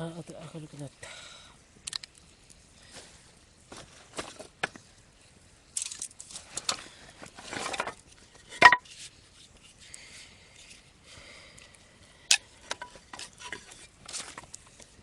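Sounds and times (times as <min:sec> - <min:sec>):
firewood snapping and rustling: 0:01.7 - 0:15.0.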